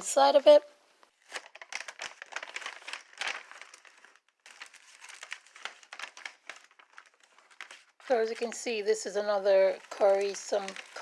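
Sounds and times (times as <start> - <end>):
packaging crinkling: 1.1 - 8.8, 9.6 - 11.0.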